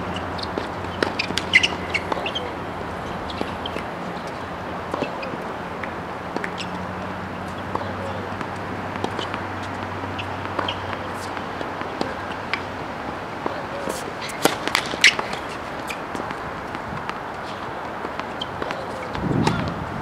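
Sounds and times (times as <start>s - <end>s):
tennis ball bouncing: 0.0s - 19.8s
tennis balls popping: 0.0s - 19.8s
faint distant voices: 1.5s - 16.4s, 17.3s - 19.8s.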